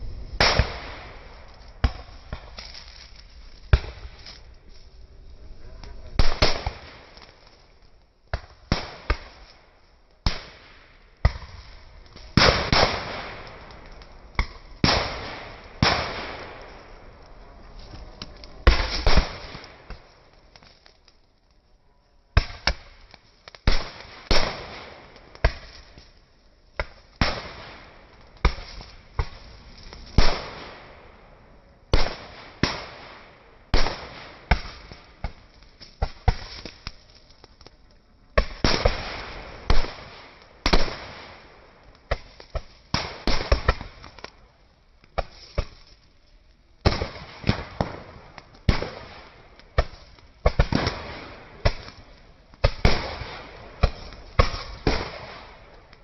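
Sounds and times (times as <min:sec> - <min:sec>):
firecrackers banging: 0:00.0 - 0:21.0, 0:22.4 - 0:31.2, 0:31.9 - 0:44.4, 0:46.8 - 0:56.0.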